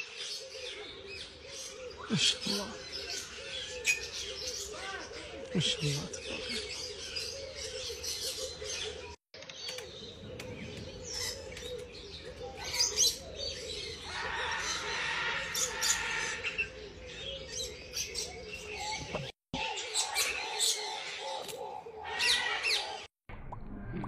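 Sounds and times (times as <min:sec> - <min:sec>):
birds chirping: 0:00.0 - 0:23.1.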